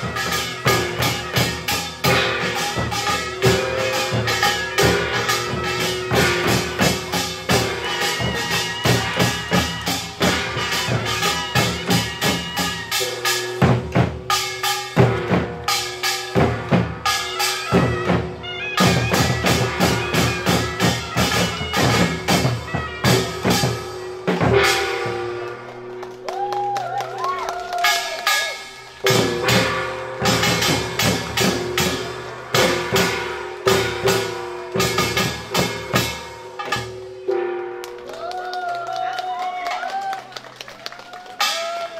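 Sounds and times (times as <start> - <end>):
drums struck rapidly: 0.0 - 25.4, 27.8 - 37.3
metal gongs ringing: 0.0 - 26.0, 27.8 - 38.1.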